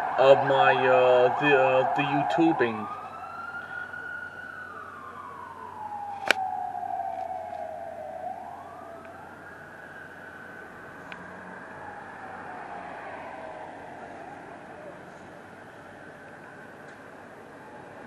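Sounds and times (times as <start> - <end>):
emergency siren wailing: 0.0 - 18.0.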